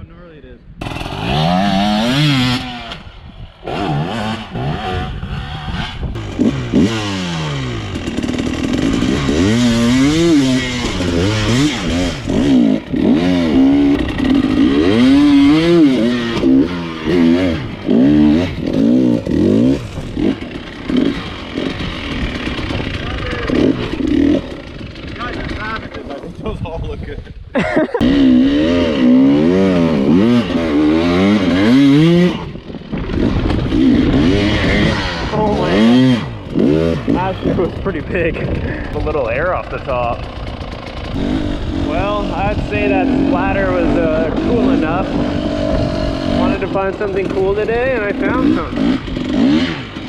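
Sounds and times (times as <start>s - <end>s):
dirt bike engine revving: 0.8s - 26.7s, 28.0s - 50.0s.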